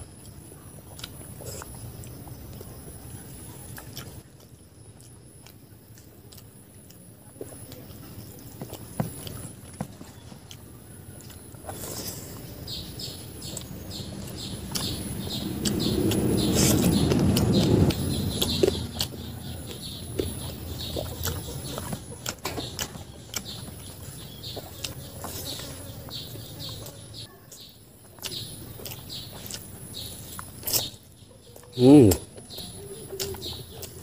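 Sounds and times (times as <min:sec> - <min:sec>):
chewing and mouth smacks: 0:00.2 - 0:34.0.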